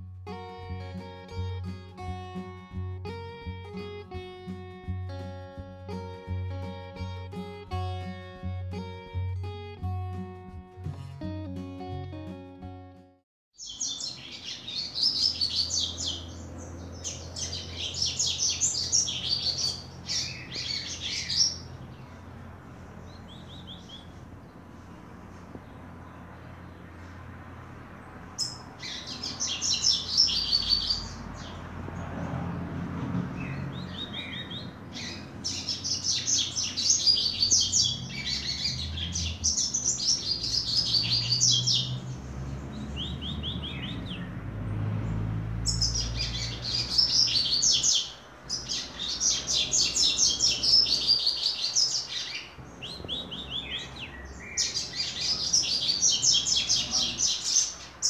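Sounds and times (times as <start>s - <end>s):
bird singing high rapid notes: 0.2s - 13.0s, 13.6s - 24.7s, 28.3s - 31.7s, 33.4s - 58.0s.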